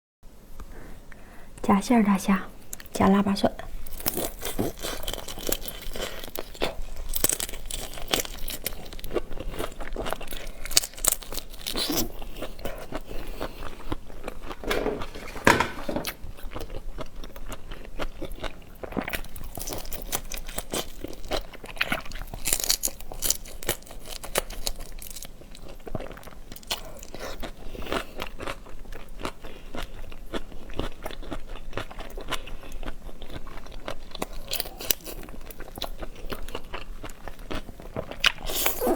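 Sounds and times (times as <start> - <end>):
crunching and chewing seafood: 3.6 - 38.9.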